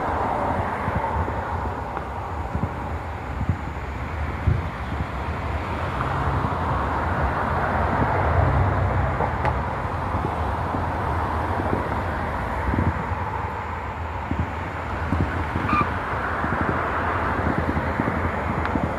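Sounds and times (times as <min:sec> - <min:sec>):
low outdoor rumble: 0:00.0 - 0:18.9.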